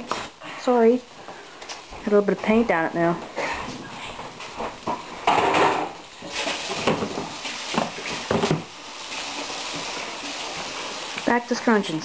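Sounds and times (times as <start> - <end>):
fat sizzling in a frying pan: 0.0 - 12.0.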